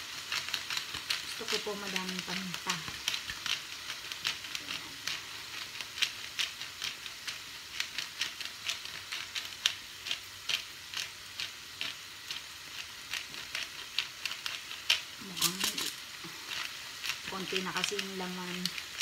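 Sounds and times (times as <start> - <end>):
food sizzling in a pan: 0.0 - 19.0
pepper shaker clicking: 0.0 - 19.0.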